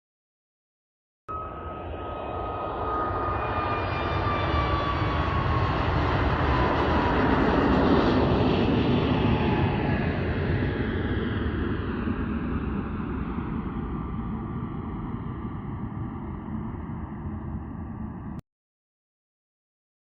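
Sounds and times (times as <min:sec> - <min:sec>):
airplane flying over: 0:01.3 - 0:18.4.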